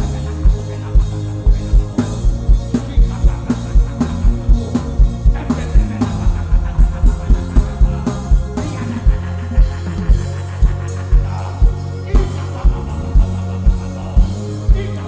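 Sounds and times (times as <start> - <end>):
band music with drum beat: 0.0 - 15.0.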